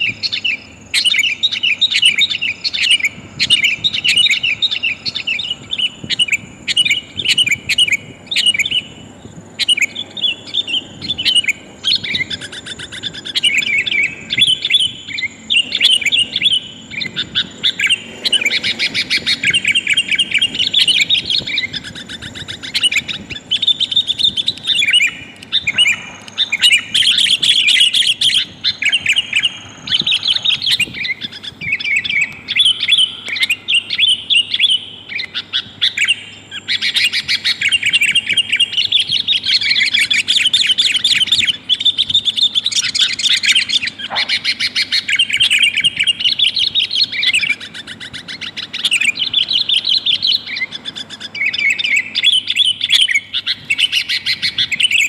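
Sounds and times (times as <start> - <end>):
bird chattering chirps: 0.0 - 55.0.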